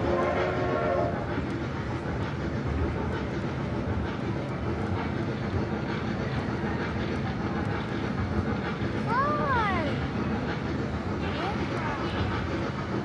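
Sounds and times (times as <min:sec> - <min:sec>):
ride-on train rumbling: 0:00.0 - 0:13.0.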